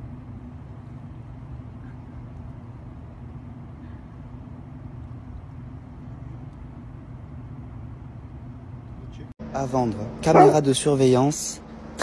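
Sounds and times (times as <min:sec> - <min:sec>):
faint hum: 0:00.0 - 0:12.0
low outdoor rumble: 0:00.0 - 0:12.0.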